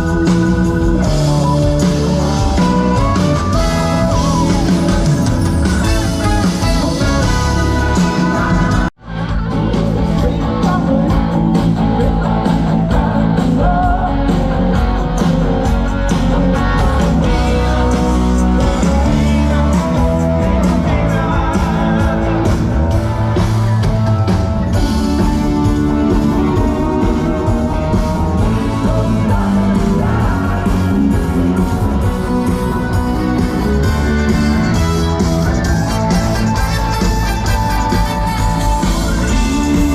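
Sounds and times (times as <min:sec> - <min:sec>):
person singing: 0:00.0 - 0:23.1, 0:24.7 - 0:35.0, 0:35.8 - 0:39.9
live pop-rock band: 0:00.0 - 0:39.9.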